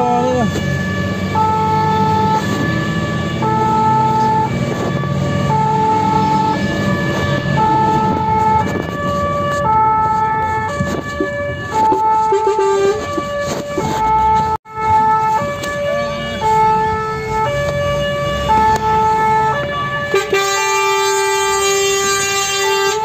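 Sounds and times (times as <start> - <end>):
fire engine two-tone siren: 0.0 - 23.0.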